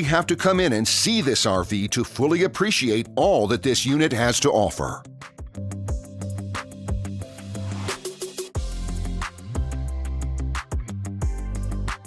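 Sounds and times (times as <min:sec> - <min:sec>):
background music with heavy bass: 0:00.0 - 0:12.0.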